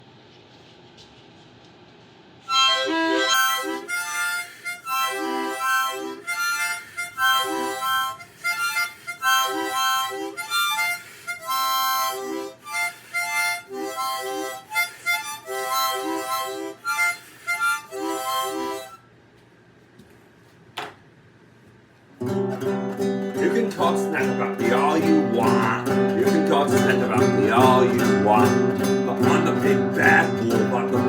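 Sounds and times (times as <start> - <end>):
harmonica playing rhythmic chords: 2.5 - 19.0, 22.4 - 31.0.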